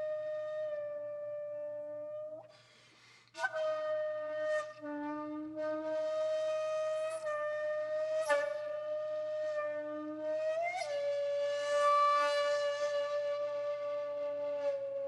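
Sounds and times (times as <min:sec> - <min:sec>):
breathy solo flute: 0:00.0 - 0:15.0.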